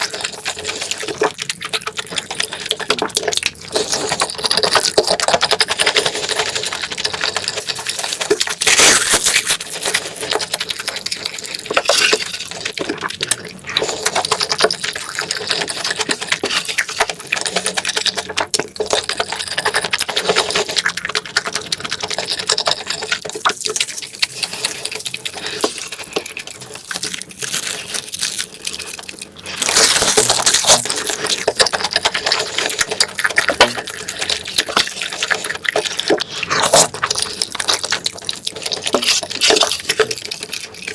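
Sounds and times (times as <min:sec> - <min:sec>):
wet chewing and slurping: 0:00.0 - 0:40.9.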